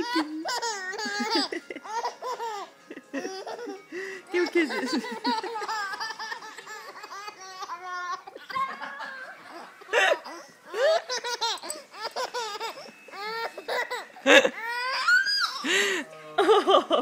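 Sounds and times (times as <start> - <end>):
baby giggling: 0.0 - 3.9, 4.6 - 14.7.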